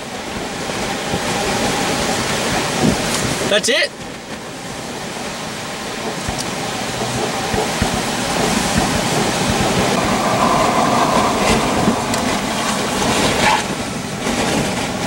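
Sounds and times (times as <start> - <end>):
storm wind on microphone: 0.0 - 15.0.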